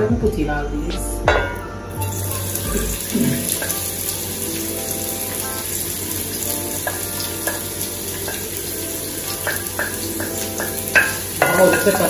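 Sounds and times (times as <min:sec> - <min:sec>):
vegetables sizzling in a pot: 0:01.9 - 0:12.0.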